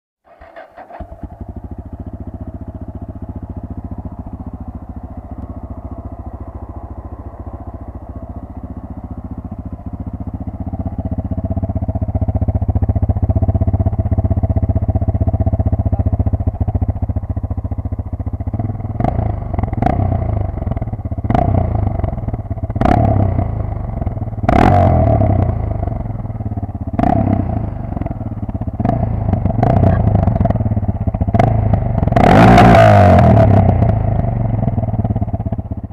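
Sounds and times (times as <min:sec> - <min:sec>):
motorcycle engine idling and revving: 0:00.2 - 0:35.9.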